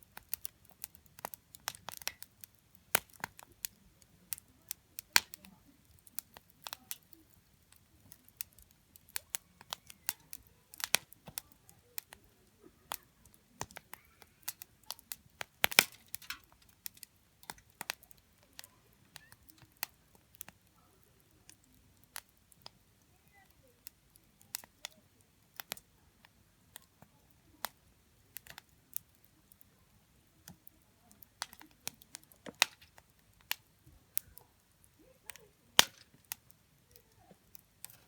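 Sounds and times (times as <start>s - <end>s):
campfire crackling and popping: 0.0s - 38.0s.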